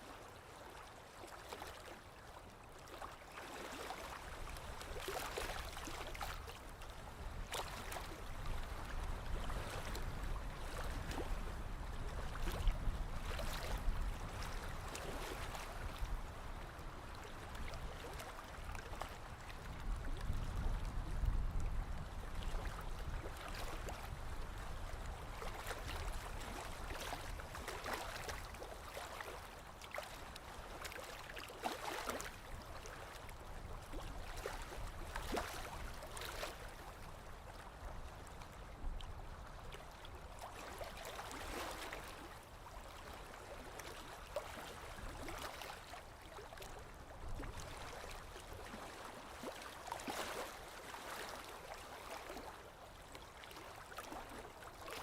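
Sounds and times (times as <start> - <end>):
small waves lapping against shore: 0.0 - 55.0.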